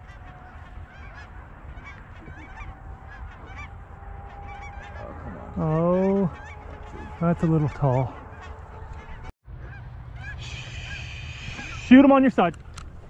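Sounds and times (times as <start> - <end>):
geese honking: 0.0 - 12.5.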